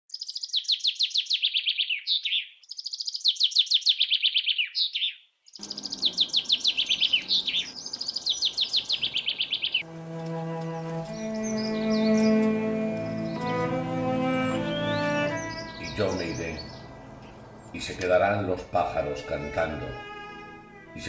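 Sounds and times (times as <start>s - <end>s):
songbird singing: 0.1s - 21.0s.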